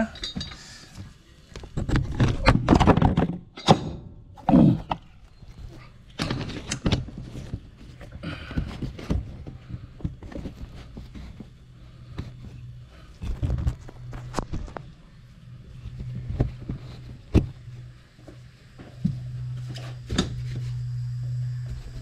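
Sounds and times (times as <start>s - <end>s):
steady low hum: 3.8s - 22.0s.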